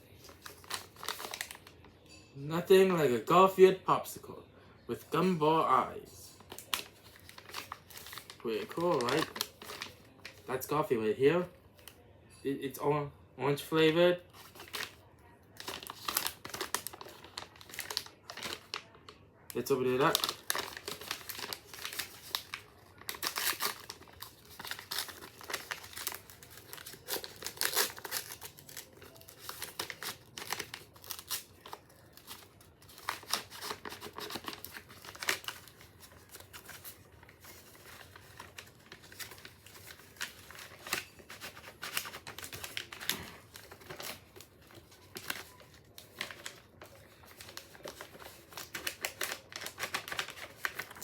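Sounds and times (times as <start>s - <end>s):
wrapper crinkling and tearing: 0.1s - 1.8s, 6.3s - 10.8s, 14.3s - 51.0s.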